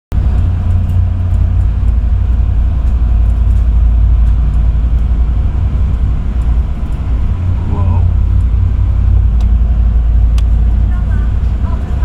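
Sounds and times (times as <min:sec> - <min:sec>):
ferry engines low rumble: 0:00.1 - 0:12.0.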